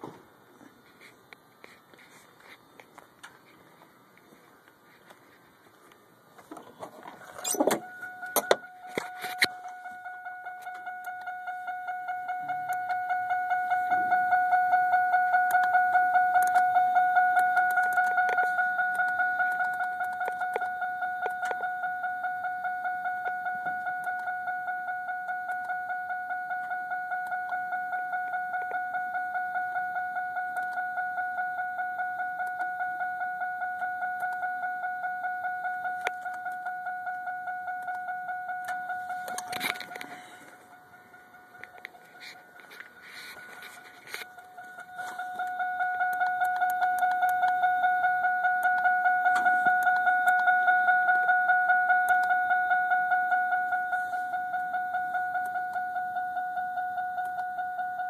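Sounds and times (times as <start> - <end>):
electronic beeping: 6.5 - 58.0.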